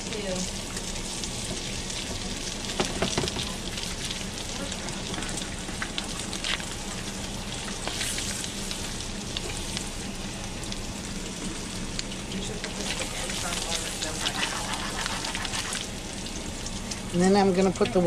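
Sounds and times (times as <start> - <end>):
fish frying in butter: 0.0 - 18.0.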